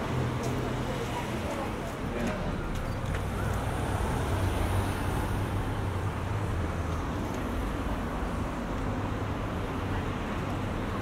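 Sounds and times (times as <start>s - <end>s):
steady street noise hum: 0.0s - 11.0s.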